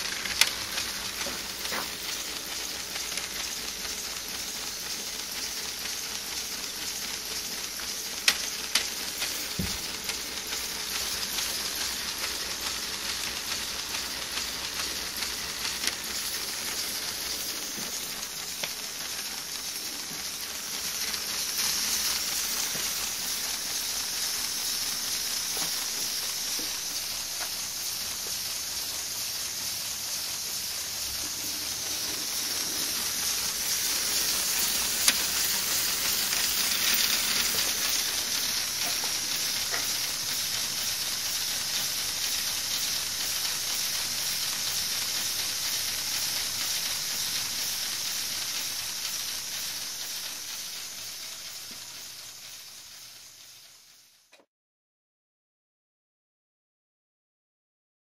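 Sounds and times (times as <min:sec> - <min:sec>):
air hissing from toy engine: 0:00.0 - 0:54.3.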